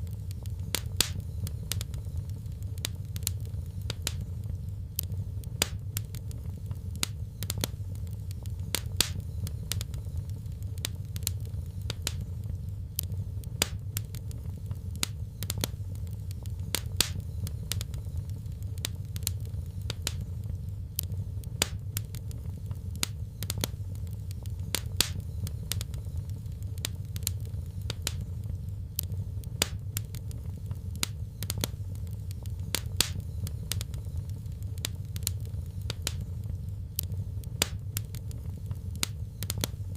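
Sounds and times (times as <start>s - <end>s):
fireplace fire crackling: 0.0s - 39.9s
low rumble of fire: 0.0s - 39.9s.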